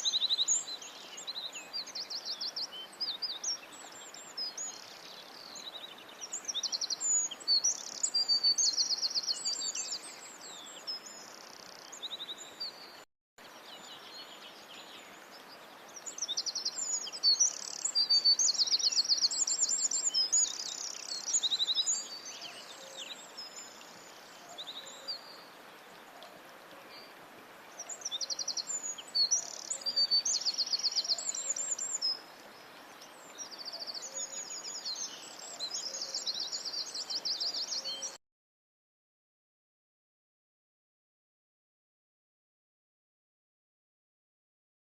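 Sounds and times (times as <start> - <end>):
steady faint hiss: 0.0 - 38.1
songbirds chirping and trilling: 0.0 - 38.2.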